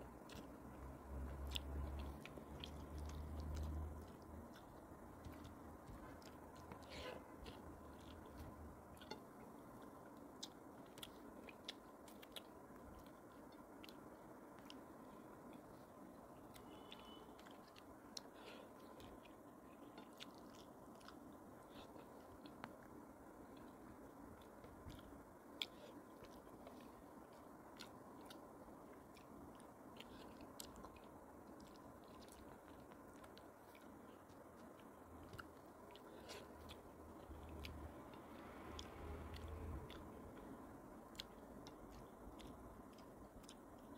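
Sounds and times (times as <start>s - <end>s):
faint chewing: 0.0s - 43.9s
small wet clicks and smacks: 0.0s - 43.9s.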